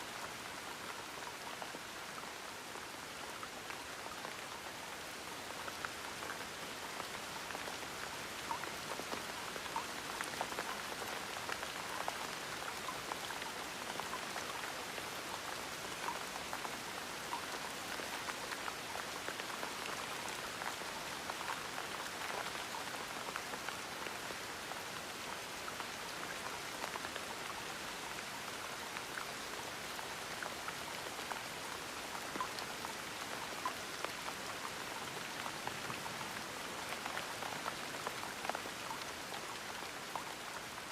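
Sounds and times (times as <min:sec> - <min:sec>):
gentle rain falling: 0:00.0 - 0:40.9.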